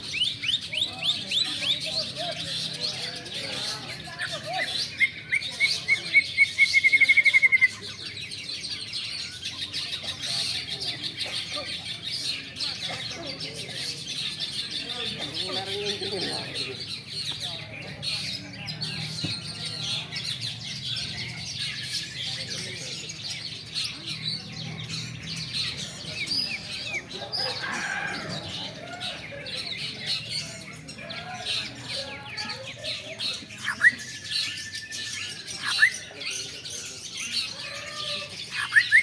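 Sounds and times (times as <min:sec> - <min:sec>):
birds chirping and trilling: 0:00.0 - 0:39.0.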